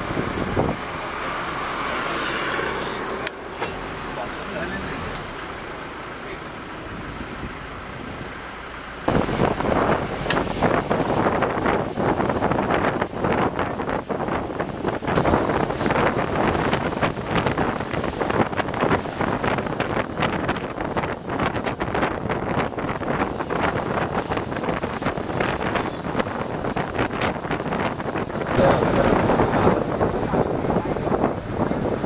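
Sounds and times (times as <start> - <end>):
road and wind noise inside vehicle: 0.0 - 32.0.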